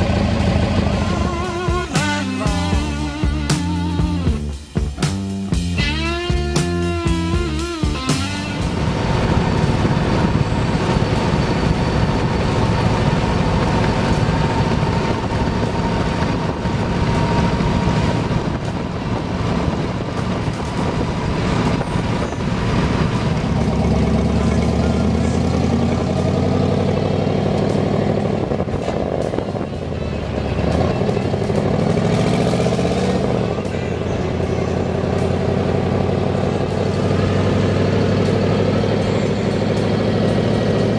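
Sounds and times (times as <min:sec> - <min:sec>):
hot rod engine running loudly: 0:00.0 - 0:40.9.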